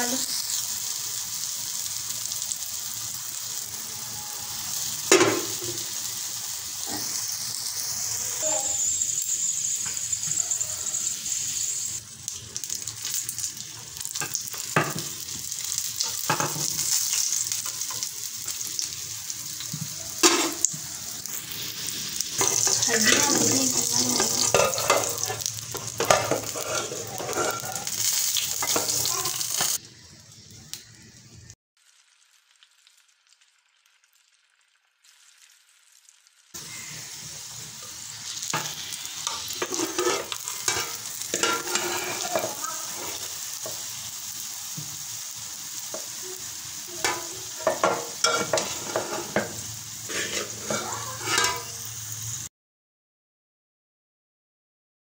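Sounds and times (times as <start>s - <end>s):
dough sizzling in oil: 0.0s - 52.5s.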